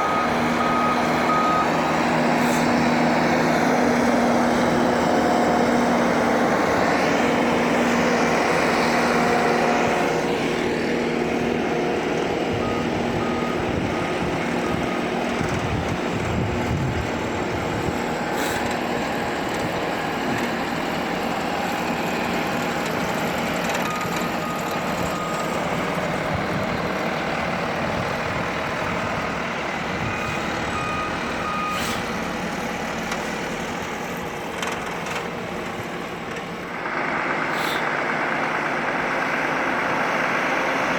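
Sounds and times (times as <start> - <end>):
heavy diesel rail vehicle running: 0.0 - 40.9.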